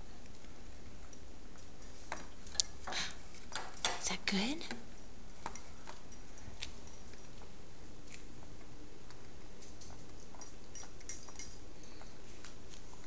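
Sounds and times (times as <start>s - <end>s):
low room noise: 0.0s - 13.0s
small clicks and mouth sounds: 0.2s - 3.7s, 4.7s - 13.0s.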